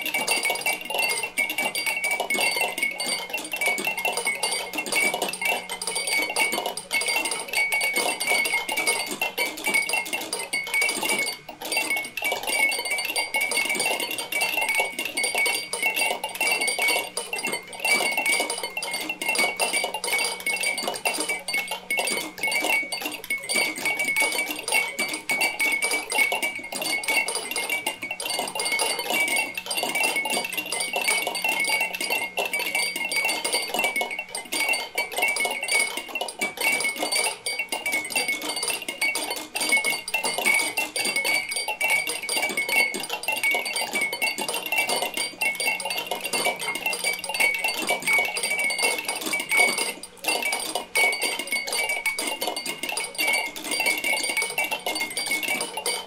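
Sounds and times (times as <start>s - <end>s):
dense glassy clinking: 0.0s - 56.0s.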